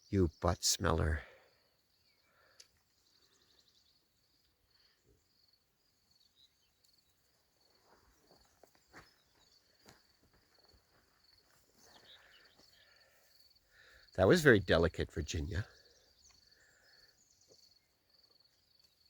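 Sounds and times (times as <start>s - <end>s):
crickets chirping: 0.1s - 19.0s.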